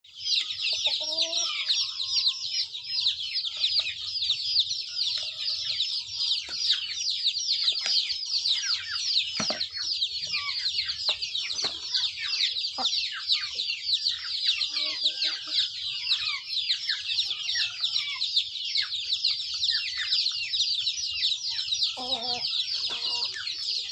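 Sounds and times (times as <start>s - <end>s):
chicks peeping: 0.0s - 23.9s
chicken clucking: 0.1s - 23.9s.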